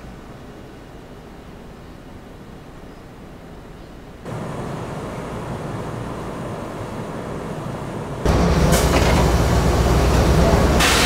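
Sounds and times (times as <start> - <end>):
low rumbling ambience: 0.0 - 11.0
train car interior noise: 0.0 - 11.0.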